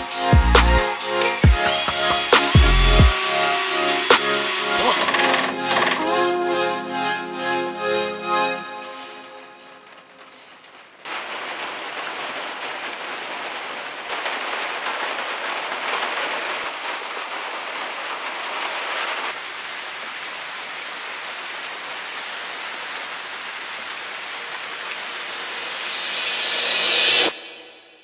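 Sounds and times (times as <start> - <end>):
rain falling: 0.0 - 27.4.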